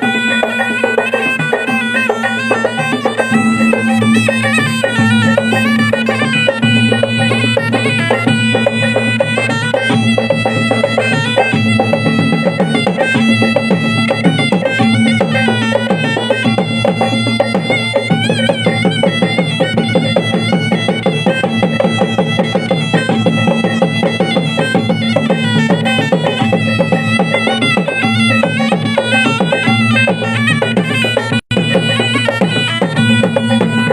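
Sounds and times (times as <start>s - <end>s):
drums beating fast rhythm: 0.0s - 33.9s
reedy wind instrument melody: 0.0s - 33.9s.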